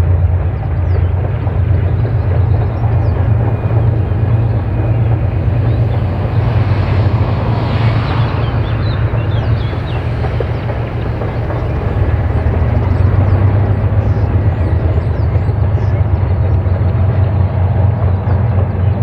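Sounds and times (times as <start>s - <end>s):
locomotive diesel engine drone: 0.0s - 19.0s
rushing noise: 0.6s - 16.8s.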